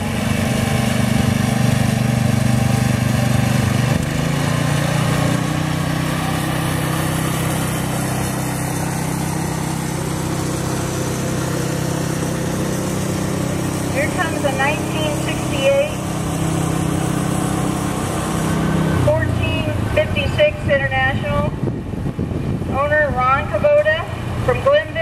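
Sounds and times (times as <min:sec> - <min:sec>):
larger tractor engine running: 0:00.0 - 0:25.0
small tractor engine passing: 0:00.0 - 0:25.0.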